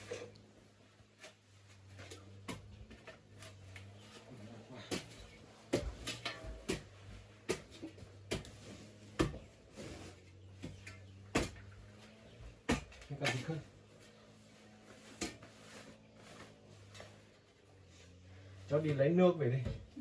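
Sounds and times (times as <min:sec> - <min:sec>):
hand tools knocking and scraping: 0:00.0 - 0:17.8.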